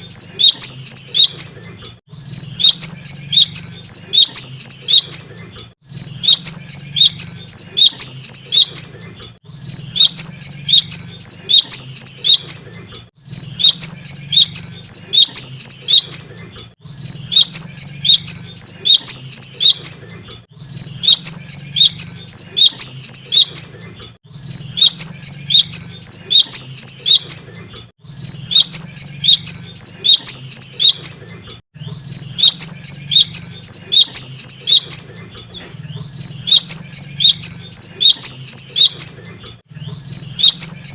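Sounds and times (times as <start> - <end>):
bird singing high sharp chirps: 0.0 - 40.9.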